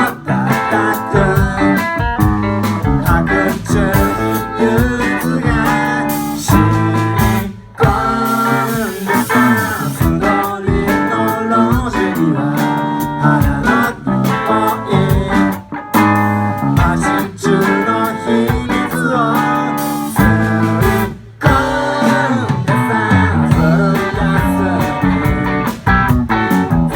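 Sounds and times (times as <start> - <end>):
guitar music: 0.0 - 26.9.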